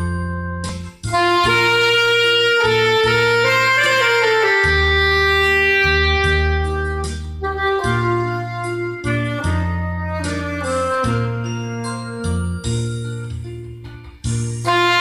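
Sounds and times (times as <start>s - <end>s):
pulsing bass backing track: 0.0s - 15.0s
reed woodwind playing slow melody: 1.1s - 12.8s, 14.6s - 15.0s.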